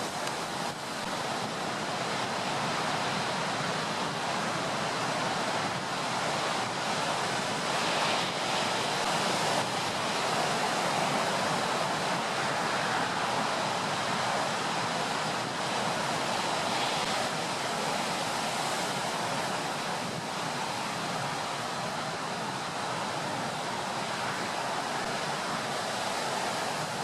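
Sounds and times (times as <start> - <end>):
waves breaking: 0.0 - 27.0
wind: 0.0 - 27.0.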